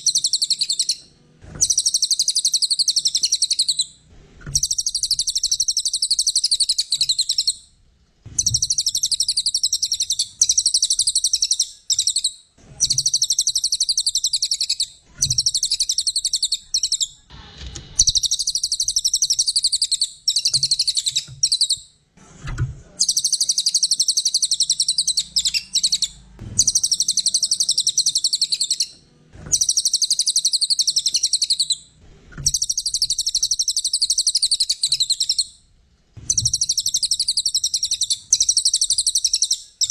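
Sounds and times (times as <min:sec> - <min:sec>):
bird singing high-pitched trills: 0:00.0 - 0:01.0, 0:01.6 - 0:03.9, 0:04.6 - 0:07.6, 0:08.4 - 0:17.2, 0:18.0 - 0:21.8, 0:23.0 - 0:28.9, 0:29.5 - 0:31.8, 0:32.5 - 0:35.5, 0:36.3 - 0:39.9.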